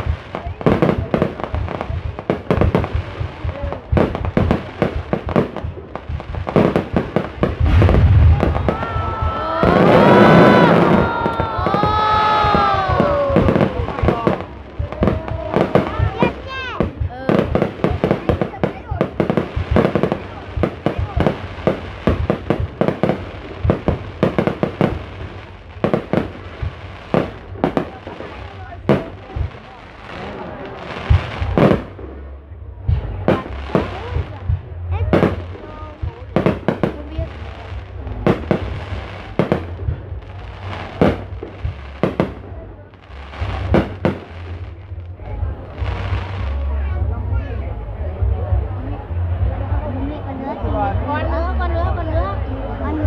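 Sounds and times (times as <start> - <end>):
fireworks bangs and crackles: 0.0 - 53.0
rumbling fireworks barrage: 0.0 - 53.0.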